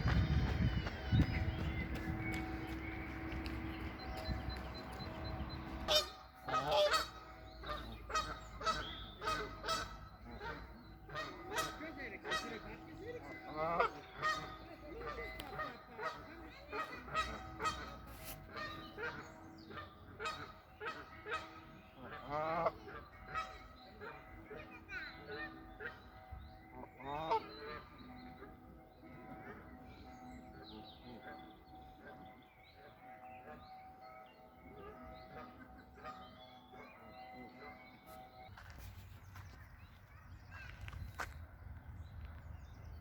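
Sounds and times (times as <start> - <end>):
geese honking: 0.0 - 33.7, 34.5 - 38.8.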